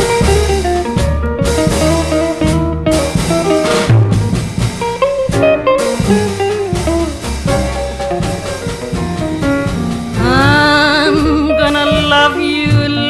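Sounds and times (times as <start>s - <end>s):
jazz combo playing: 0.0s - 13.0s.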